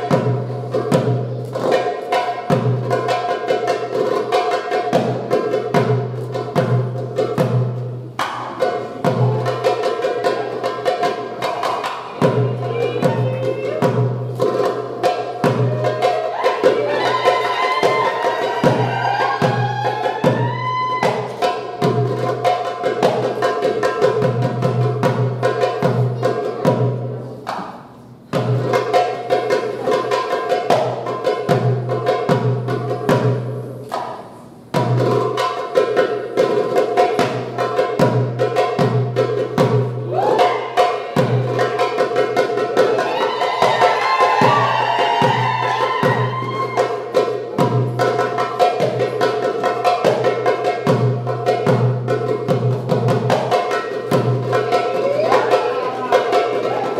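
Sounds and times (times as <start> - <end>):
goblet drum playing: 0.0 - 27.4, 28.3 - 56.9.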